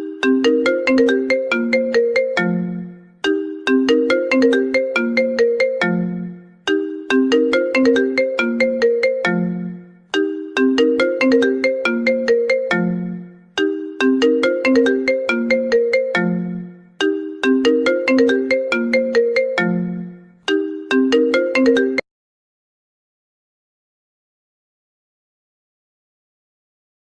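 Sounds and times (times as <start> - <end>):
phone ringtone: 0.0 - 22.0.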